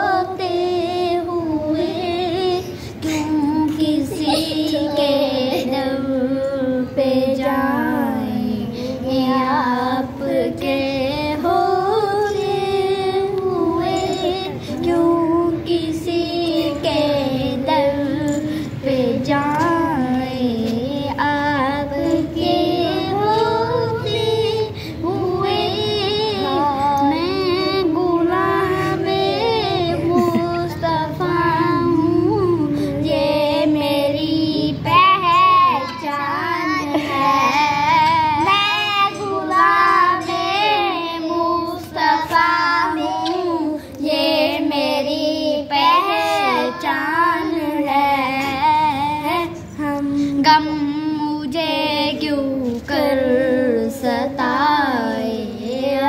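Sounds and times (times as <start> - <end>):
children singing: 0.0 - 56.0.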